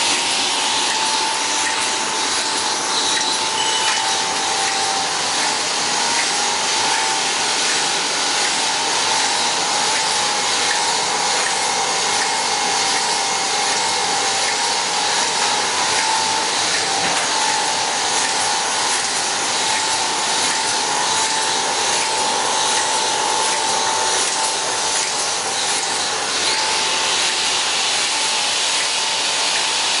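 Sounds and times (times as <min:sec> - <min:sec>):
machine whirring with whine: 0:00.0 - 0:30.0.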